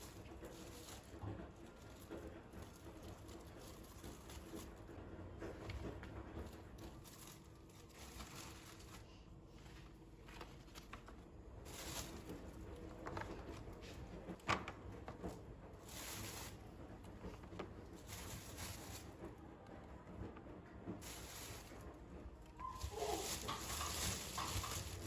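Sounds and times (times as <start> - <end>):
soft rustling: 0.0 - 14.4, 15.0 - 19.4, 21.0 - 25.0.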